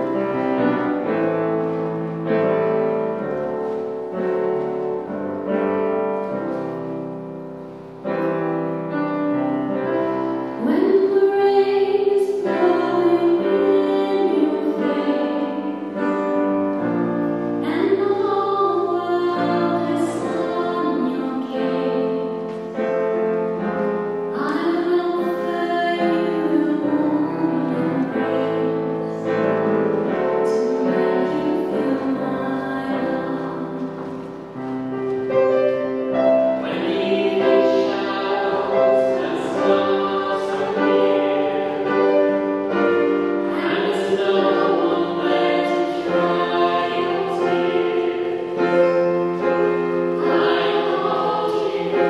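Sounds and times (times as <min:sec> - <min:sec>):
piano playing slow ballad: 0:00.0 - 0:52.0.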